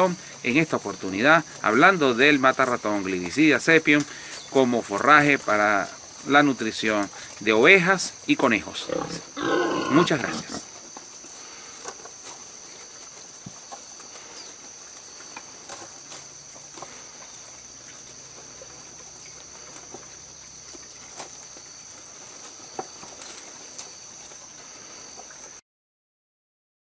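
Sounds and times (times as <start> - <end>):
sheep chewing leafy branches: 0.0 - 25.6.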